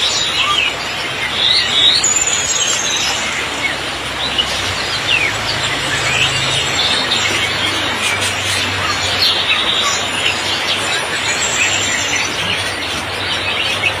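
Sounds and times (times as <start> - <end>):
heavy rain falling: 0.0 - 14.0
songbirds chirping: 0.0 - 14.0.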